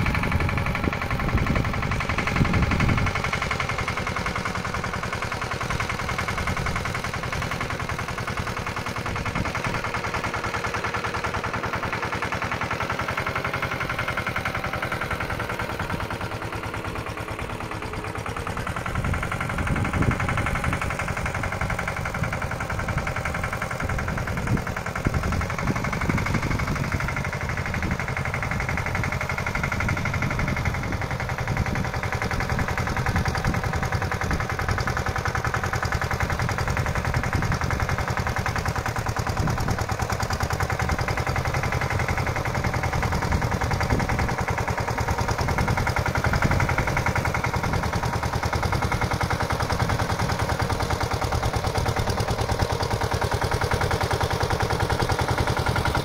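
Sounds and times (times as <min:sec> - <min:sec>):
diesel tractor engine chugging: 0:00.0 - 0:56.0.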